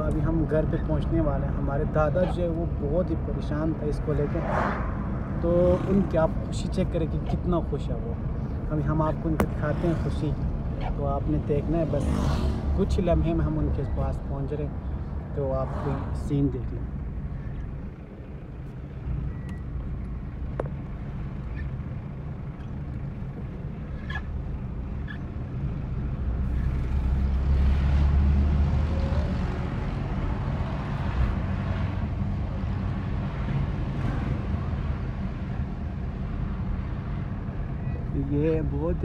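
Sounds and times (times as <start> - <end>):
car engine and road noise: 0.0 - 39.0.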